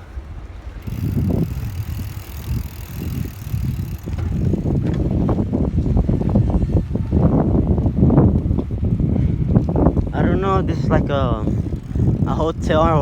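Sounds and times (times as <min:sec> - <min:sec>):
bicycle bumps and rattles: 0:00.0 - 0:13.0
bicycle tyres and frame rumbling: 0:00.0 - 0:13.0
wind on microphone: 0:00.0 - 0:13.0.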